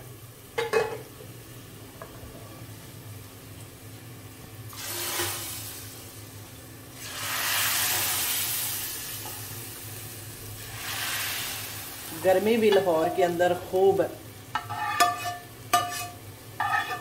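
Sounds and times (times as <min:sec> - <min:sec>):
hot oil sizzling in a pot: 0:00.0 - 0:17.0.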